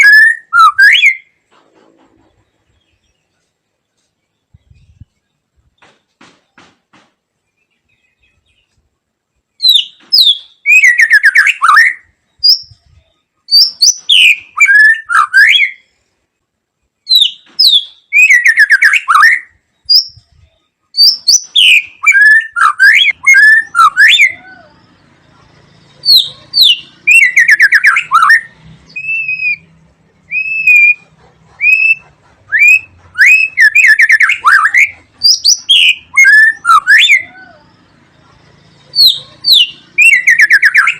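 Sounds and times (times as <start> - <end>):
songbird whistles and trills: 0.0 - 1.4, 7.4 - 16.1, 17.0 - 40.9.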